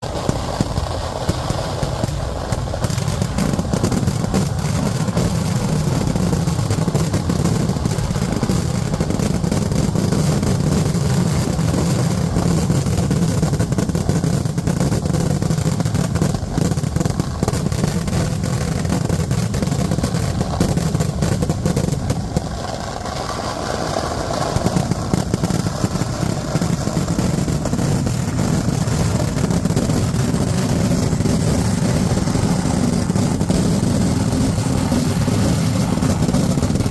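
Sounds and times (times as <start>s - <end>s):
heavy fireworks rumble: 0.0s - 36.9s
rapid firecracker bangs: 0.0s - 36.9s.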